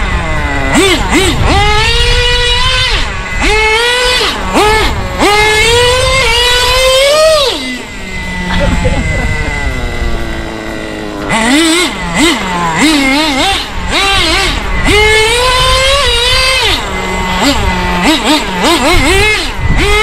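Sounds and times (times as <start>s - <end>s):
two-stroke engine revving: 0.0s - 20.0s.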